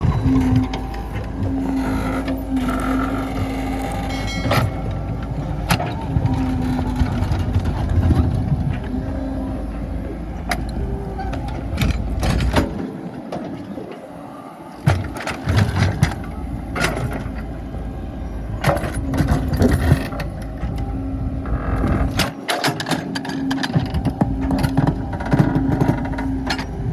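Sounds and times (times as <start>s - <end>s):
excavator motor whining: 0.0s - 26.9s.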